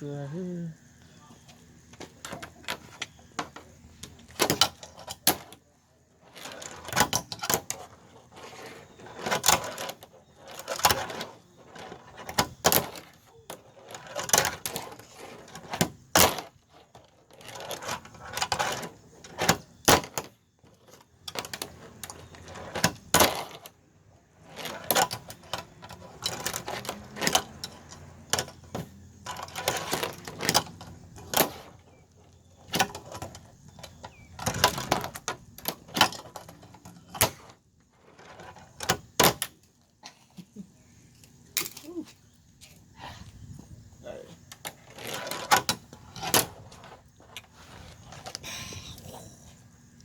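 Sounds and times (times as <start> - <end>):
small wheels rolling rattle: 1.6 - 40.0, 44.4 - 48.5.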